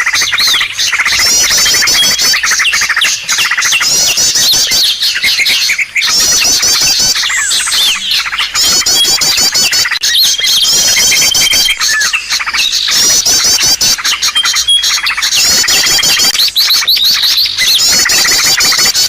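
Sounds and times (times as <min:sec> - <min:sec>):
fast bird trills: 0:00.0 - 0:19.0
high bird chirps: 0:00.0 - 0:19.0
thin bird whistles: 0:00.0 - 0:19.0.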